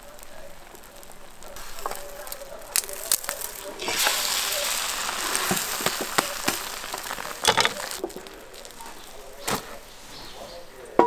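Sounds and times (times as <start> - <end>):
egg sizzling in a frying pan: 0.0 - 11.0.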